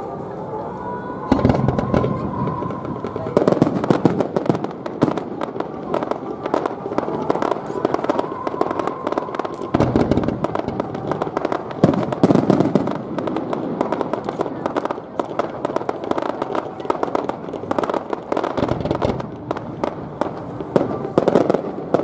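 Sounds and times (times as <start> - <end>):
fireworks crackling: 1.2 - 22.0
firework booms: 1.3 - 22.0.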